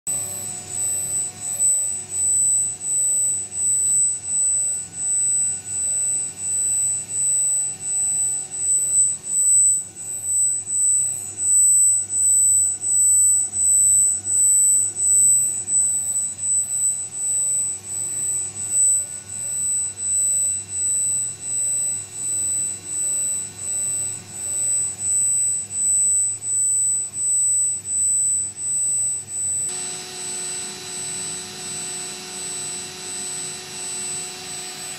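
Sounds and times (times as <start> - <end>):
servo motor electric whine: 0.1 - 34.9.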